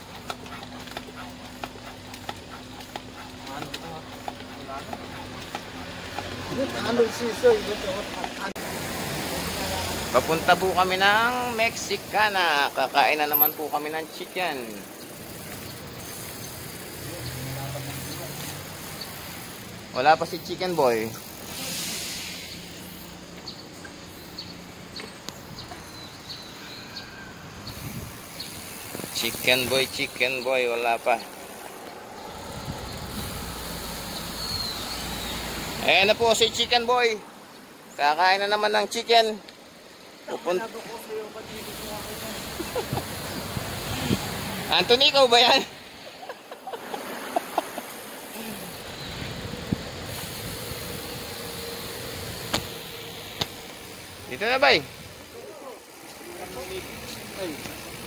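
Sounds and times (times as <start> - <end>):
bicycle road noise: 0.0 - 58.0.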